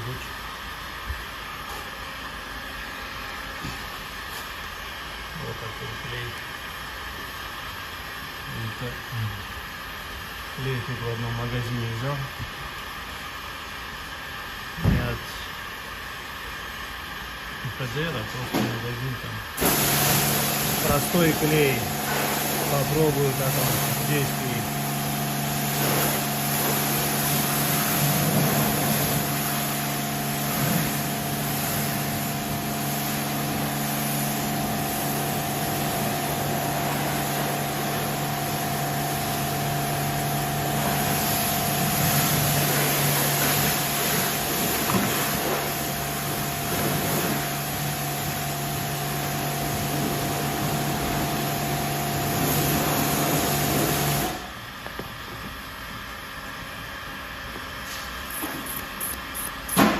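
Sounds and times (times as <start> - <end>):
electric motor and fan humming: 0.0 - 59.9.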